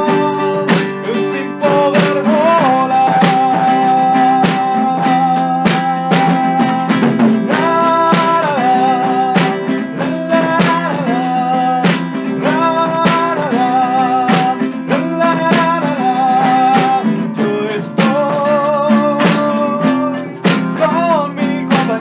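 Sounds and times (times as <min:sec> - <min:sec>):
guitar strumming: 0:00.0 - 0:22.0.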